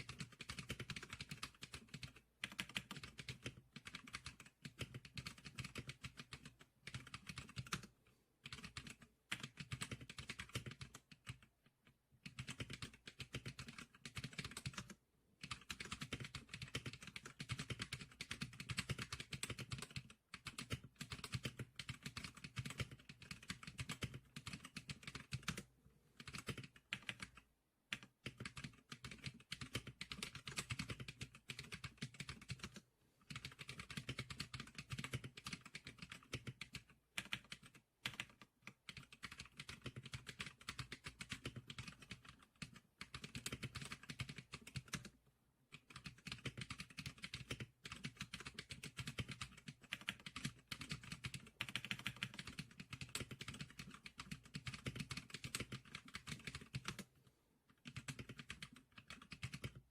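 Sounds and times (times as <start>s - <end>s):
fast keyboard typing clicks: 0.0s - 11.5s, 12.2s - 57.1s, 57.7s - 59.9s.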